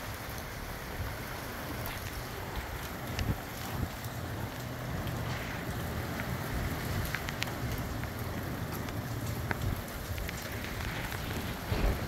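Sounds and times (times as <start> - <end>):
rain hissing: 0.0 - 12.0
wind rumbling: 0.0 - 12.0.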